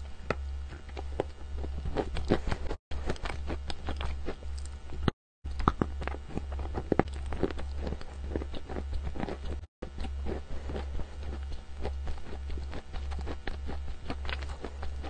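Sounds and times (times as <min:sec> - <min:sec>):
steady low hum: 0:00.0 - 0:15.0
chalk crunching while chewed: 0:00.3 - 0:15.0.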